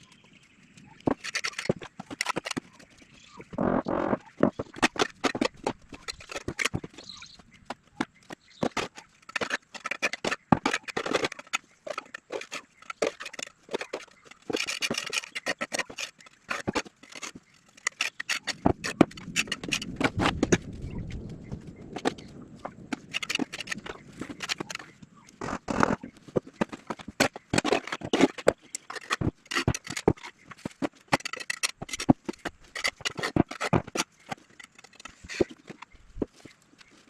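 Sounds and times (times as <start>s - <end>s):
knocks clicks and scrapes: 0.1s - 37.0s.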